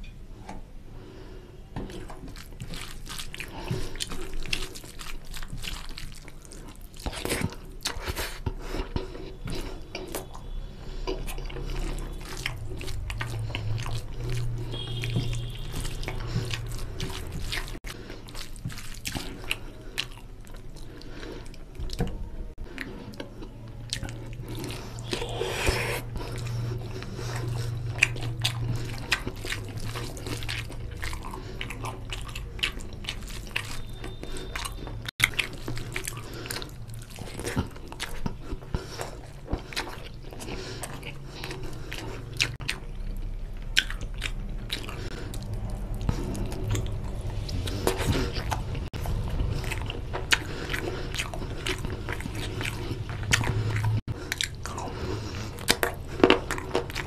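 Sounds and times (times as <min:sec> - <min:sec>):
close chewing and biting: 0:01.8 - 0:57.0.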